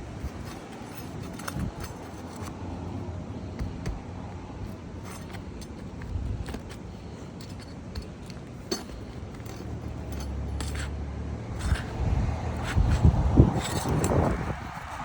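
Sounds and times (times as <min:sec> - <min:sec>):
metal tool clinking on nails: 0:00.2 - 0:02.5, 0:04.6 - 0:15.0.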